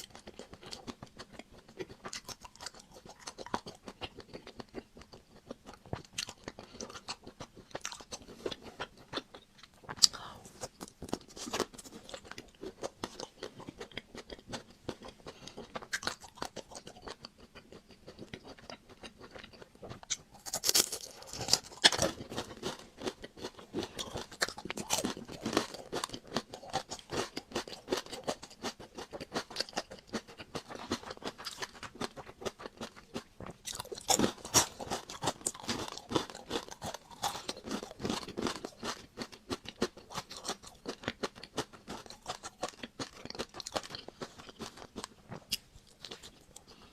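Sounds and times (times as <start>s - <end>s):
chewing crunchy chocolate shell: 0.0s - 46.9s.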